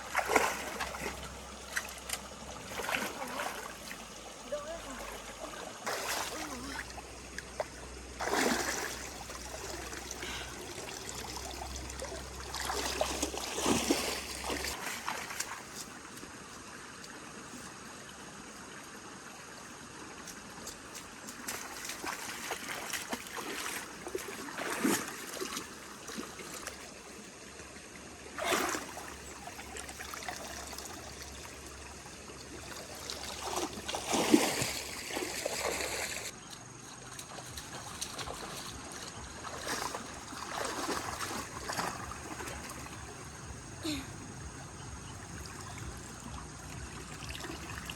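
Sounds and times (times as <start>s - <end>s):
floodwater flowing: 0.0s - 47.9s
water splashes: 0.0s - 47.9s.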